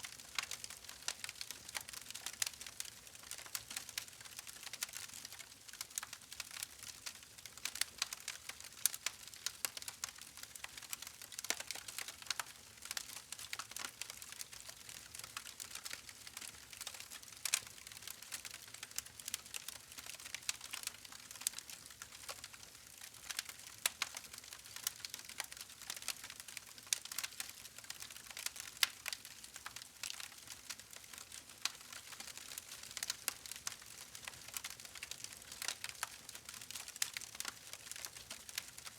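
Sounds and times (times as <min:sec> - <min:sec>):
wood fire crackling: 0:00.1 - 0:38.9.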